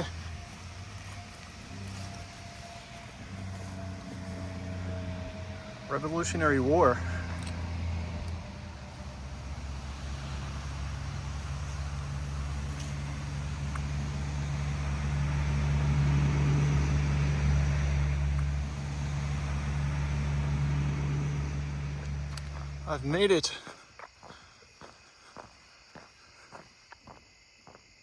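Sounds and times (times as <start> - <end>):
vehicle passing on road: 0.0 - 24.9.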